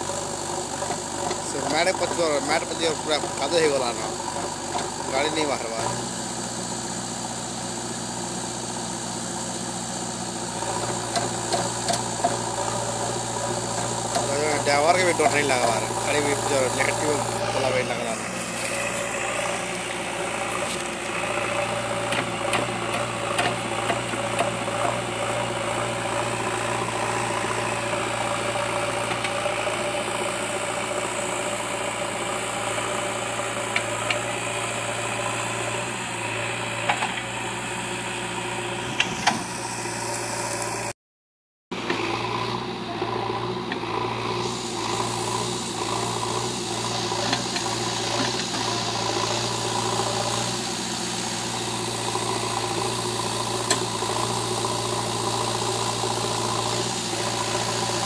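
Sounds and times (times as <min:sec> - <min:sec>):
diesel engine running: 0:00.0 - 0:40.9, 0:41.7 - 0:58.0.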